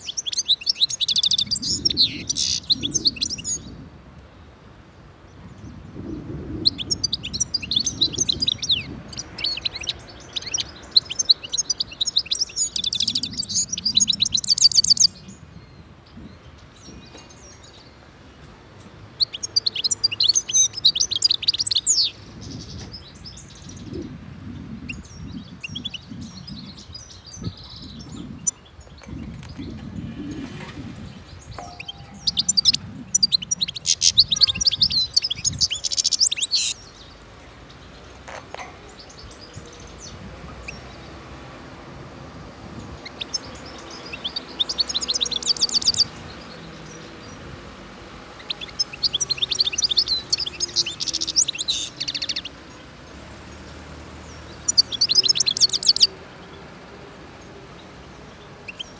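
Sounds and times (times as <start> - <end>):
finch twittering song: 0.0 - 3.8, 5.3 - 41.4, 42.3 - 56.6, 57.3 - 58.9.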